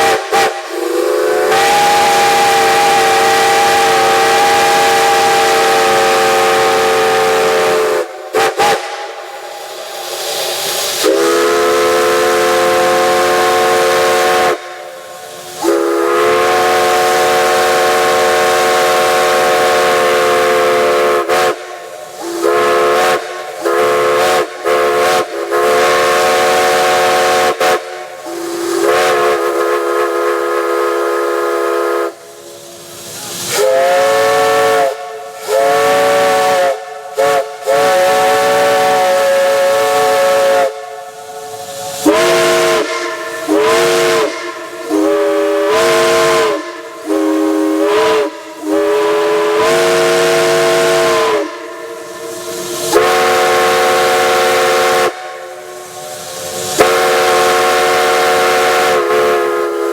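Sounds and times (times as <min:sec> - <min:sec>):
hiss of escaping steam: 0:00.0 - 0:59.9
steam locomotive chime whistle: 0:00.0 - 0:59.9.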